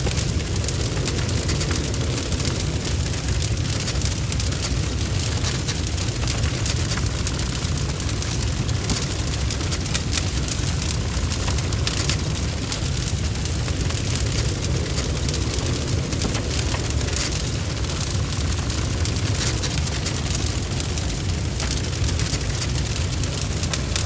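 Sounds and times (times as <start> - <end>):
fire crackling and spitting: 0.0 - 24.0
fire roaring: 0.0 - 24.0.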